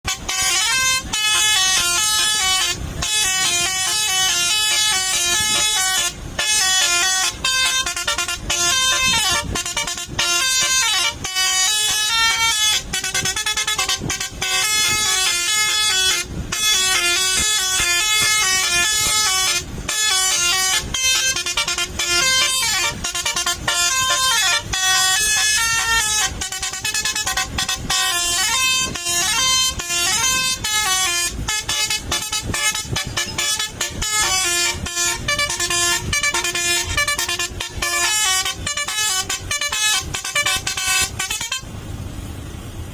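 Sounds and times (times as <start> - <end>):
musical air horn playing a tune: 0.1 - 41.7.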